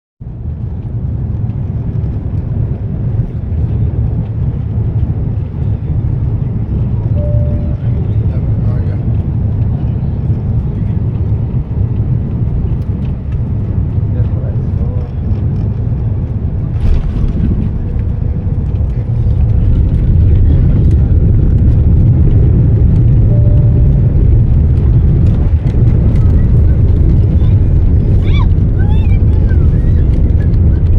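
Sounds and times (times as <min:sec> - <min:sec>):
airliner landing rumble: 0:00.2 - 0:30.9.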